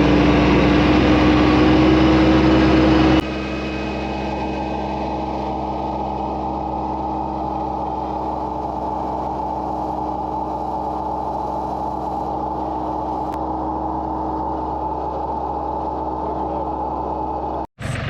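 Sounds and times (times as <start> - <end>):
backhoe engine running: 0.0 - 18.0.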